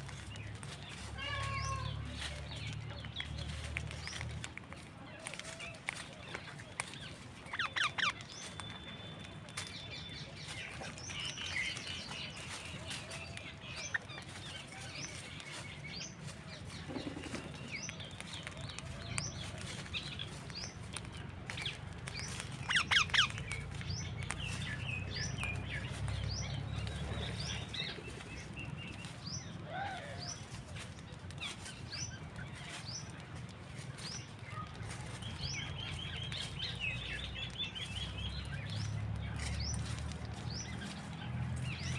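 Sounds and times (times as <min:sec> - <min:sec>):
harsh bird calls: 0:00.0 - 0:41.9
parrots and small birds chirping: 0:00.0 - 0:41.9.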